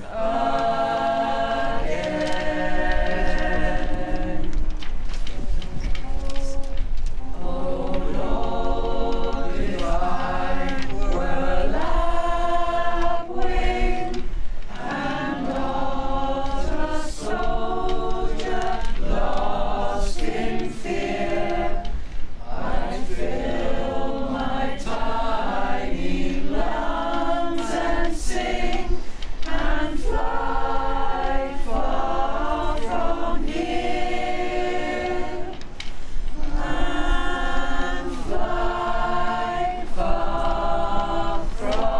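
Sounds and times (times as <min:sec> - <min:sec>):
choir singing unaccompanied: 0:00.0 - 0:41.9.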